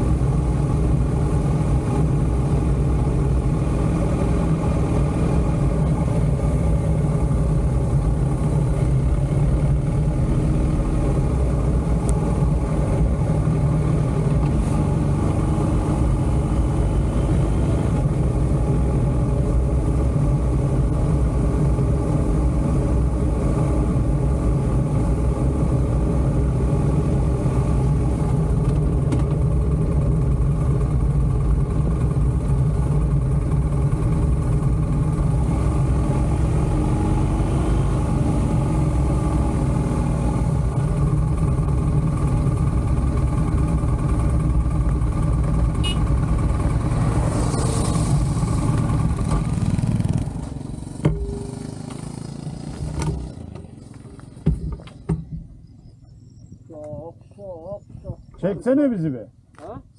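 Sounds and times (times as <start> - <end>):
motorcycle engine cruising: 0.0 - 56.7.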